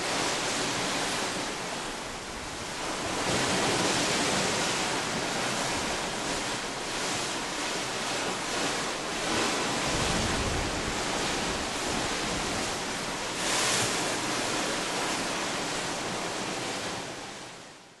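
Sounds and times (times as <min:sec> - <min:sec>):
sea water rushing and breaking: 0:00.0 - 0:17.6
wind buffeting microphone: 0:00.2 - 0:15.1.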